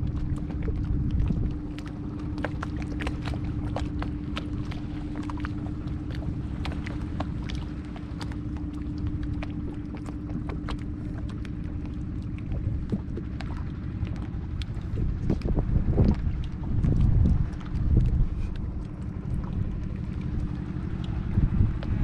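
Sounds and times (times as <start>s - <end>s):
paddle ticks and splashes: 0.0s - 22.0s
steady low hum: 0.0s - 22.0s
wind on microphone: 0.0s - 22.0s.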